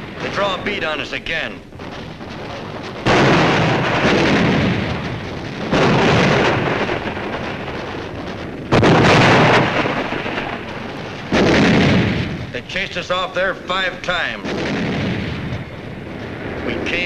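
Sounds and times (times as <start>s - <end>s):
exploding shells: 0.0s - 17.0s.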